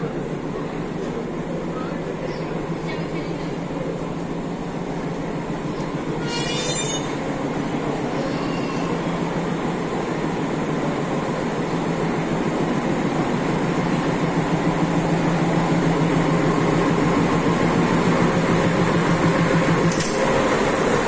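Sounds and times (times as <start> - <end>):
train rumbling and rattling: 0.0 - 21.0.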